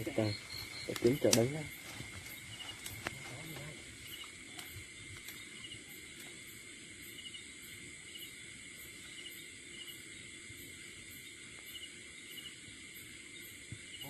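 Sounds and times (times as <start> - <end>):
insect chirps: 0.0 - 14.0
night insects trilling: 0.0 - 14.0.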